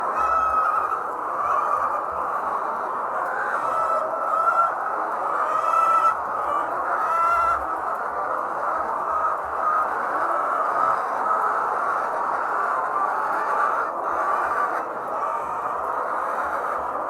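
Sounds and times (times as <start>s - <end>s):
hens clucking: 0.0s - 17.0s
loud hen calls: 0.0s - 17.0s.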